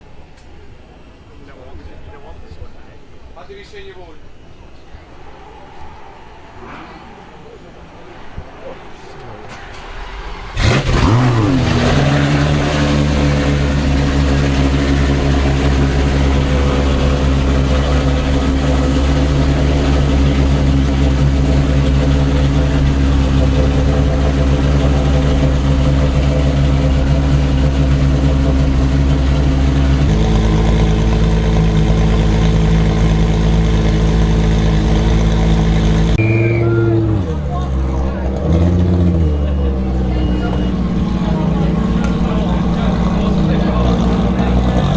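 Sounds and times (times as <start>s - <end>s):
car engine revving and idling: 8.7s - 44.9s.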